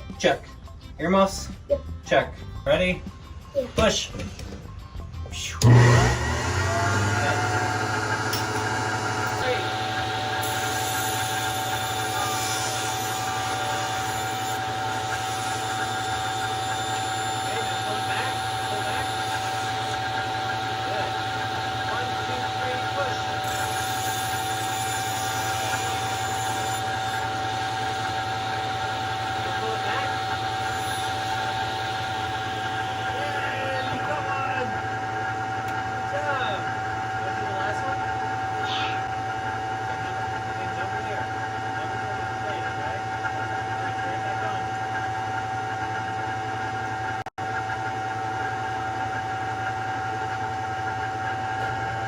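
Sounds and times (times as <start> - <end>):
table saw running: 5.4 - 52.0.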